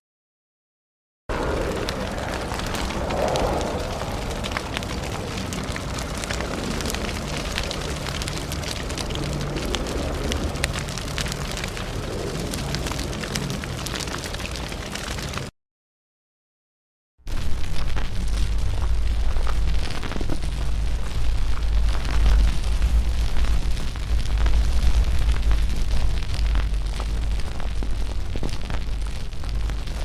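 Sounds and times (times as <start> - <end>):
fire burning with crackles: 1.3 - 15.5, 17.3 - 30.0.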